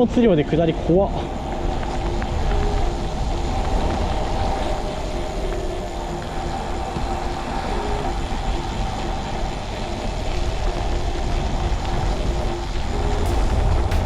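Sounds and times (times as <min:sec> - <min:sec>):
bicycle tyre noise: 0:00.0 - 0:14.0
faint wavering tone: 0:00.0 - 0:14.0
wind on microphone: 0:00.0 - 0:14.0.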